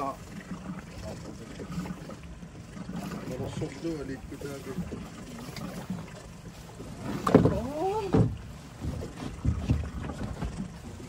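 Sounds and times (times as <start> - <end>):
water lapping against hulls: 0.0 - 11.0.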